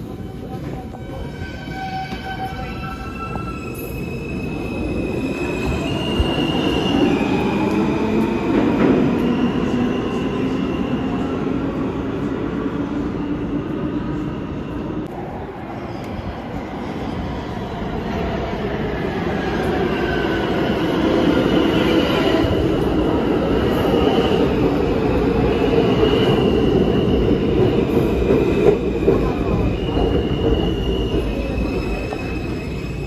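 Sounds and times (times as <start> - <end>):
subway train running: 0.0 - 33.0.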